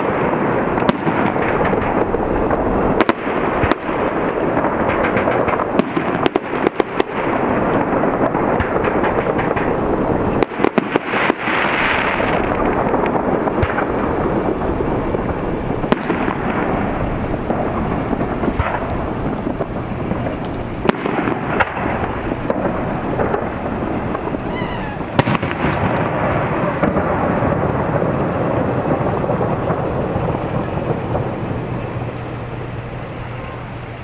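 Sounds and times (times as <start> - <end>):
sharp firework bangs: 0.0 - 33.0
firework hissing: 0.0 - 34.0
firework shell bursts and crackle: 0.0 - 34.0.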